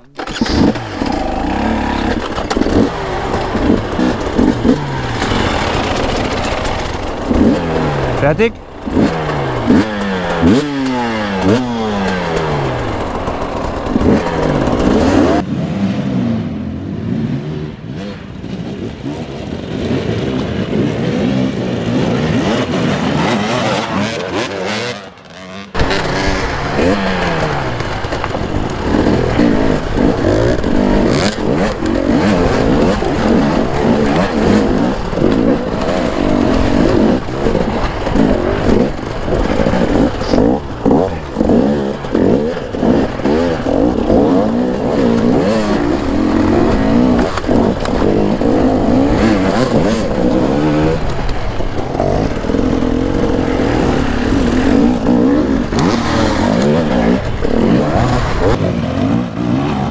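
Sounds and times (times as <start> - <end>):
motorcycle engines revving hard: 0.0 - 59.9.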